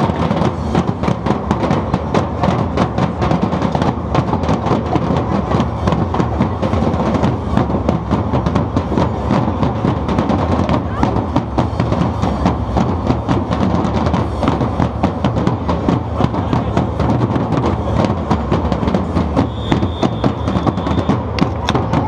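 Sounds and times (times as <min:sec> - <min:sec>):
percussion band drumming: 0:00.0 - 0:22.0.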